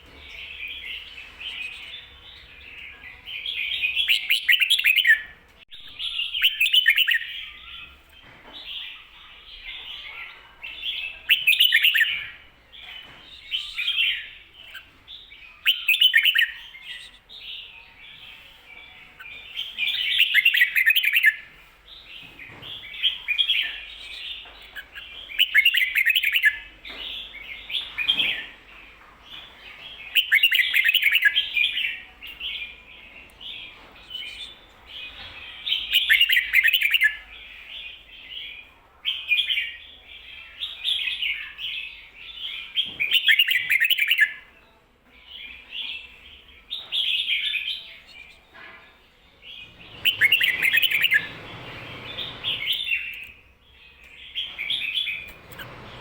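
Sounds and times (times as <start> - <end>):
bird warbling song: 0.0 - 44.5, 45.3 - 56.0.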